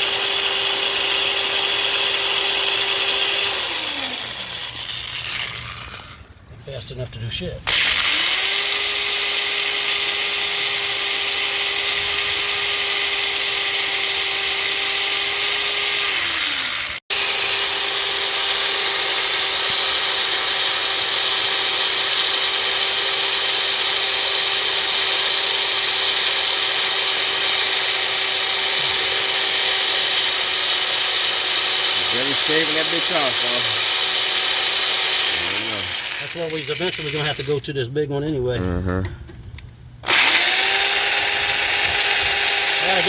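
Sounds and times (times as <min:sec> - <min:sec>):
drill bit cutting steel: 0:00.0 - 0:06.2, 0:07.7 - 0:37.6, 0:40.0 - 0:43.0
cordless drill whining: 0:00.0 - 0:06.4, 0:07.7 - 0:37.6, 0:40.0 - 0:43.0.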